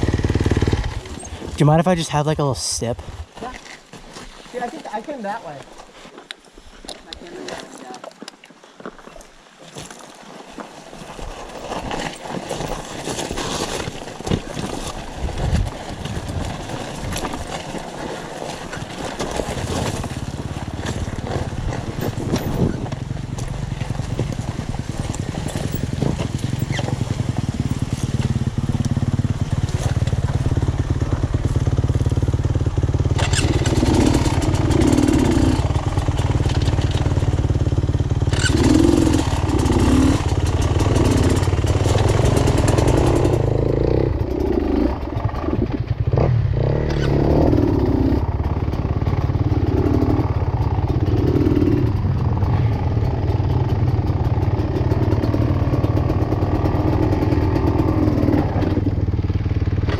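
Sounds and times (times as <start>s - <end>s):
dirt bike engine at low revs: 0.0s - 3.6s, 11.0s - 59.9s.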